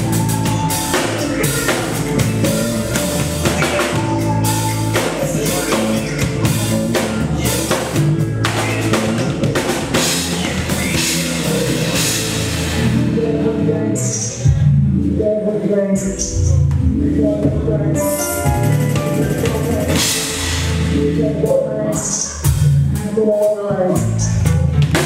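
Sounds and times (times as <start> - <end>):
drum kit playing: 0.0 - 14.7, 16.5 - 25.0
bass and synth backing track: 0.0 - 25.0.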